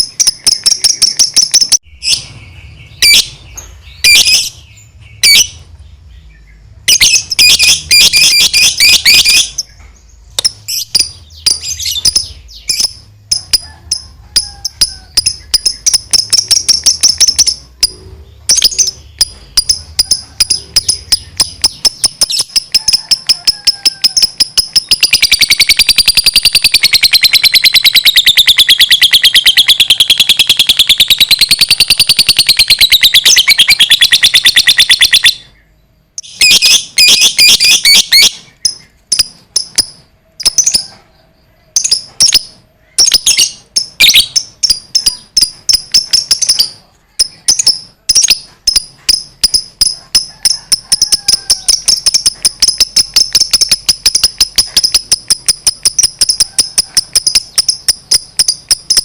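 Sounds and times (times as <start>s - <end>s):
lovebird chattering trill: 0.0s - 5.6s, 6.9s - 41.0s, 41.6s - 59.0s
sharp bird chirps: 0.0s - 59.0s.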